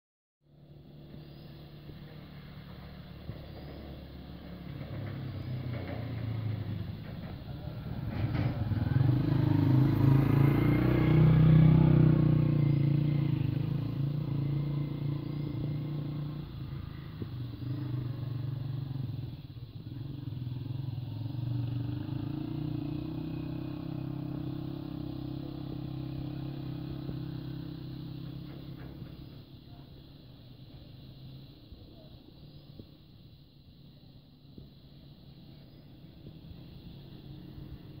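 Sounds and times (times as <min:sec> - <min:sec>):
engine running: 0:00.4 - 0:38.0.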